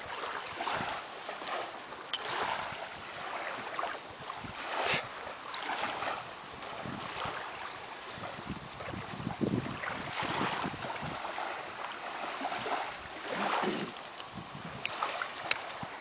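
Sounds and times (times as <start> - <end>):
wind buffeting microphone: 0.0 - 1.2, 2.1 - 16.0
small waves washing on beach: 0.0 - 16.0.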